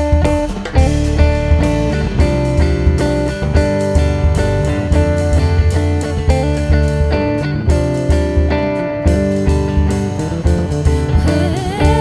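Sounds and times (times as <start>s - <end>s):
light drum kit hits: 0.0s - 11.2s
electric bass: 0.0s - 12.0s
electric guitar: 0.0s - 12.0s.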